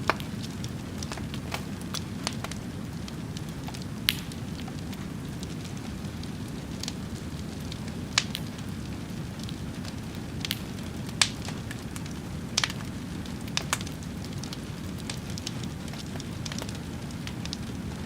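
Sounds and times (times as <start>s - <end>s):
fire burning with crackles: 0.0s - 18.0s.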